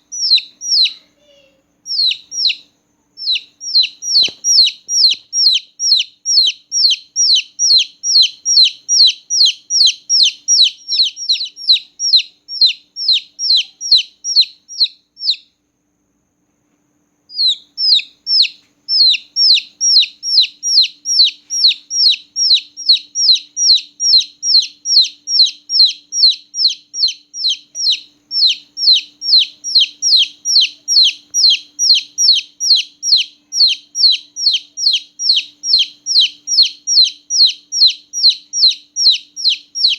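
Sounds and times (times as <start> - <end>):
chick peeping: 0.0 - 15.6, 17.3 - 39.9.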